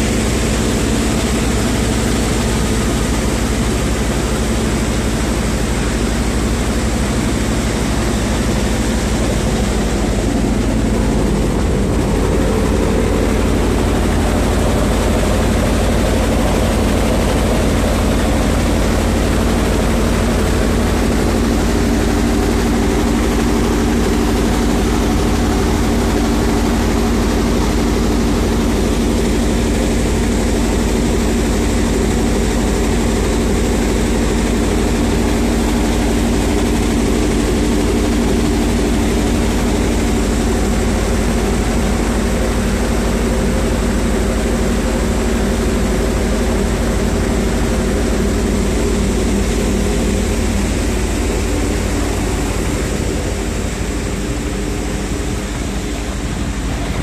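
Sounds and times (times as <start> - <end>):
heavy machine hum: 0.0 - 57.0
constant rushing hiss: 7.0 - 57.0.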